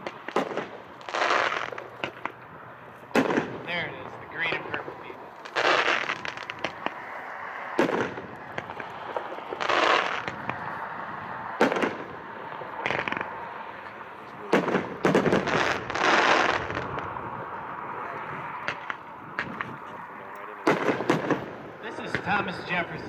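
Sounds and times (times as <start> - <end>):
fireworks hissing and crackling: 0.0 - 17.5, 18.2 - 23.0
firework bangs: 0.0 - 23.0.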